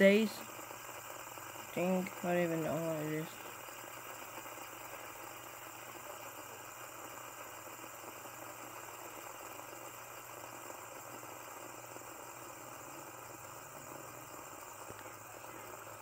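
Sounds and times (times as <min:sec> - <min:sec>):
fidget spinner whirring: 0:00.0 - 0:16.0.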